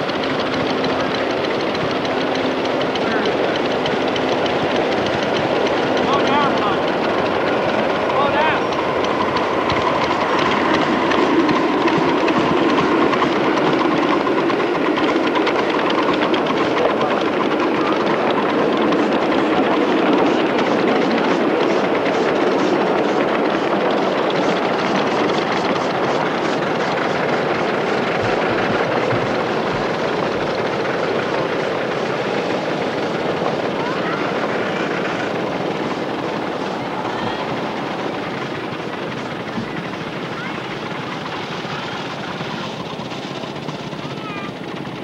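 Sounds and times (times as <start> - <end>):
steam locomotive exhaust: 0.0 - 45.0
wheels on rails: 0.0 - 45.0.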